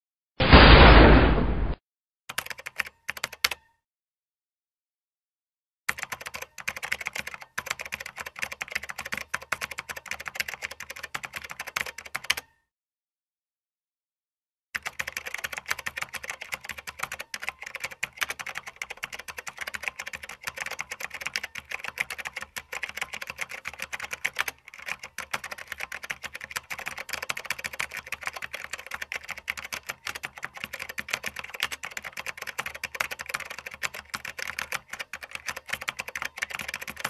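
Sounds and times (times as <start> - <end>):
fast typing on laptop keyboard: 2.3 - 3.7, 5.9 - 12.5, 14.8 - 37.0.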